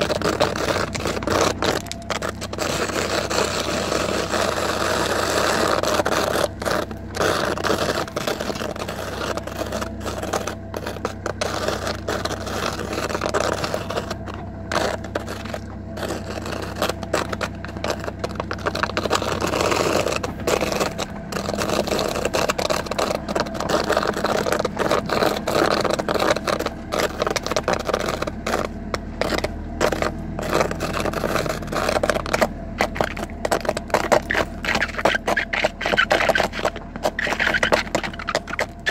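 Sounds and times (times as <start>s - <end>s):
boots scraping car trunk floor: 0.0s - 38.9s
low steady hum: 0.0s - 38.9s.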